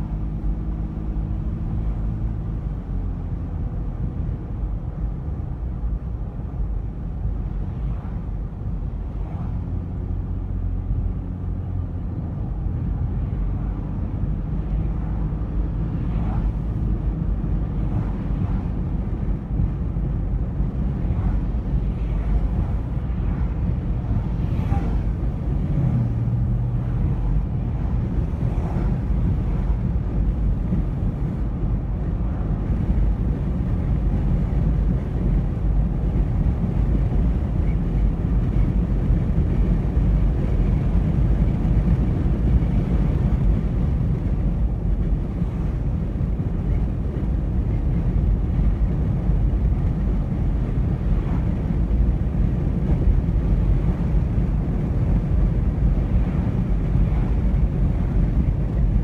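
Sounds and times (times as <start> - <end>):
road and tyre noise in a car: 0.0 - 59.0.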